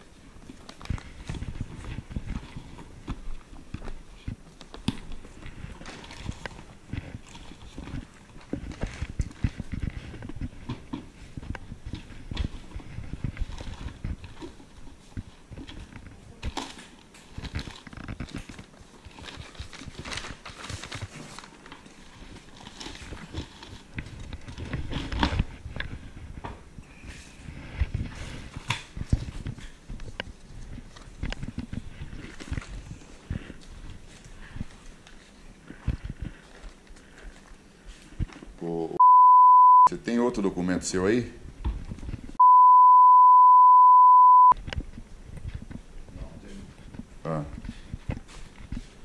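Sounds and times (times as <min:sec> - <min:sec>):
rustling of bags and cardboard: 0:00.0 - 0:39.0, 0:44.6 - 0:49.0.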